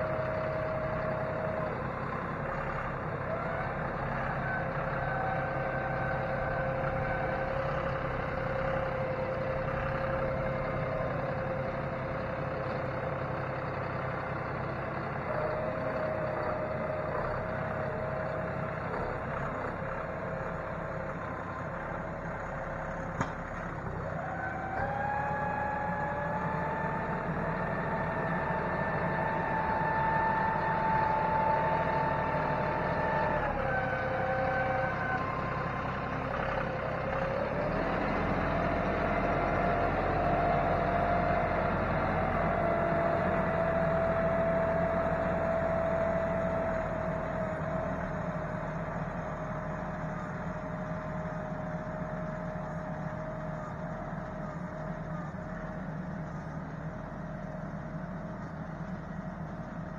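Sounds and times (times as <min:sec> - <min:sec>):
engine whine: 0:00.0 - 0:59.9
tractor diesel engine running: 0:00.0 - 0:59.9.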